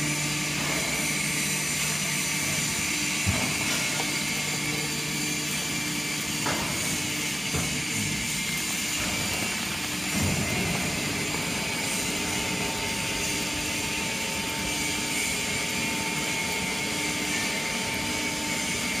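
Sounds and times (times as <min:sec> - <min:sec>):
hydraulic power unit drone: 0:00.0 - 0:19.0.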